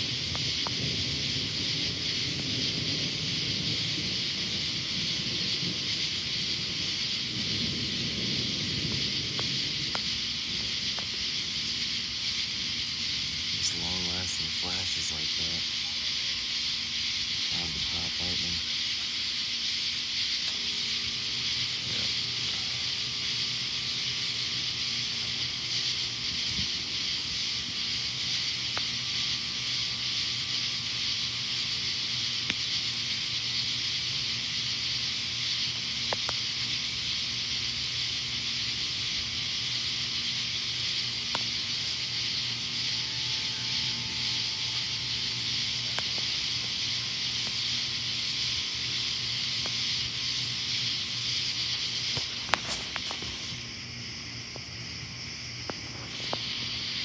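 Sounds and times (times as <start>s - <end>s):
high hiss: 0.0s - 57.0s
high pulsing buzz: 0.0s - 57.0s.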